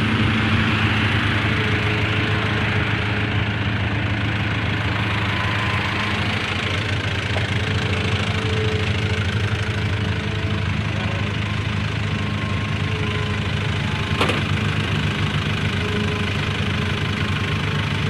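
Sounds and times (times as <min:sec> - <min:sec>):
heavy engine running: 0:00.0 - 0:18.0.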